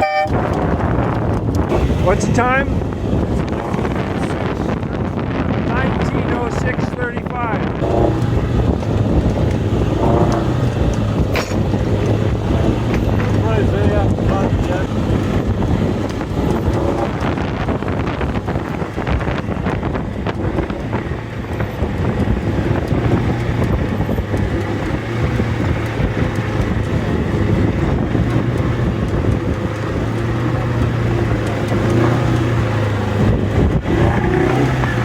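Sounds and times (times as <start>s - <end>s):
boat engine humming: 0.0s - 35.0s
wind buffeting microphone: 0.0s - 35.0s.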